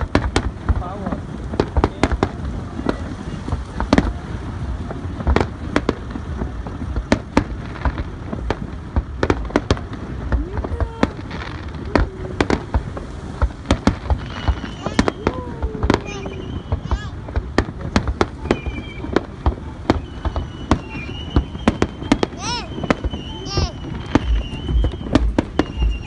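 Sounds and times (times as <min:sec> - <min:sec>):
fireworks bangs: 0:00.0 - 0:26.0
low rumbling: 0:00.0 - 0:26.0.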